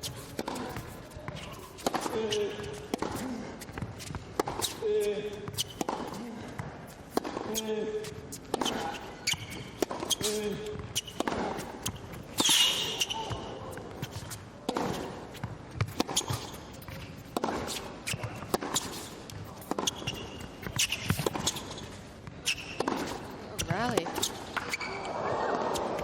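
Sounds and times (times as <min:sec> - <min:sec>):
tennis ball struck by racquet: 0:00.0 - 0:24.8
tennis ball bouncing: 0:00.0 - 0:25.0.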